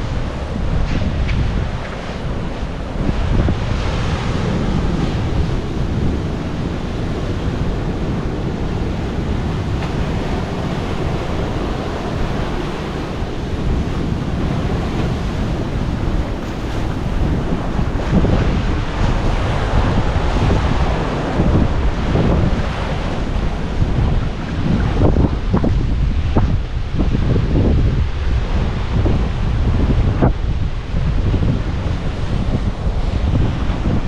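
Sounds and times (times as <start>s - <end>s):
surf washing onto rocks: 0.0s - 34.0s
wind buffeting microphone: 0.0s - 34.0s.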